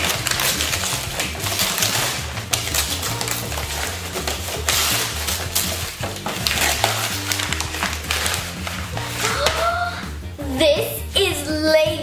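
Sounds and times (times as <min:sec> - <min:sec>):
wrapping paper rustling: 0:00.0 - 0:10.0
background music with bass line: 0:00.0 - 0:12.0.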